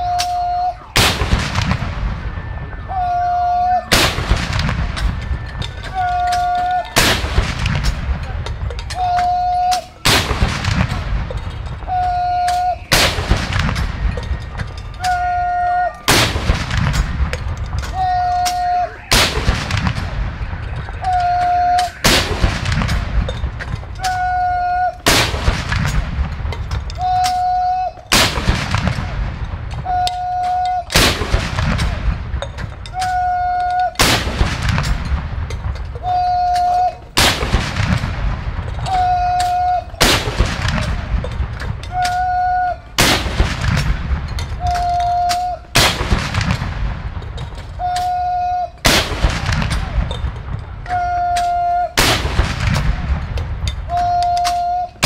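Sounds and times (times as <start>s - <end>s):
rumbling echo: 0.0s - 47.9s, 48.8s - 54.4s
gun salute booms: 0.0s - 55.0s.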